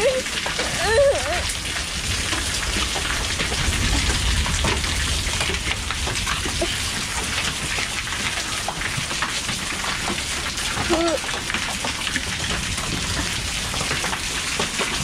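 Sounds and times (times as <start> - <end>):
heavy rain and hail on concrete: 0.0 - 15.0.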